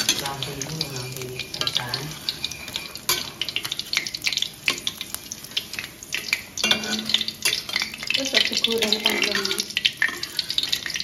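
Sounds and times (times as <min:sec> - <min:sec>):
metal utensils clinking and scraping: 0:00.0 - 0:11.0
oil sizzling in a wok: 0:00.0 - 0:11.0.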